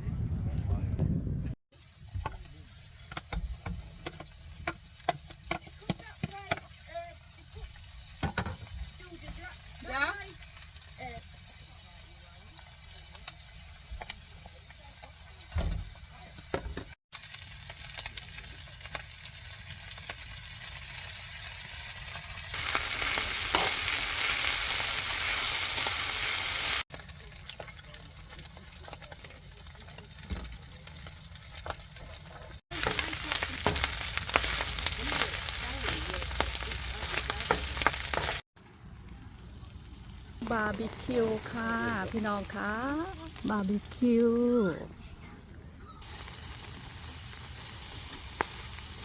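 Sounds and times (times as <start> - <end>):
meat sizzling on a grill: 1.7 - 45.0, 45.9 - 49.0.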